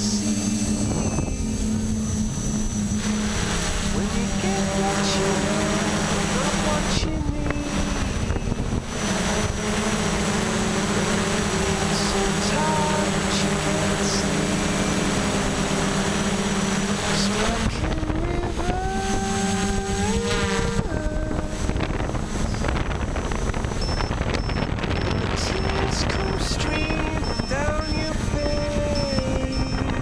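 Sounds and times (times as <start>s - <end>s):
drone motors whining: 0.0s - 30.0s
wind rush: 0.0s - 30.0s.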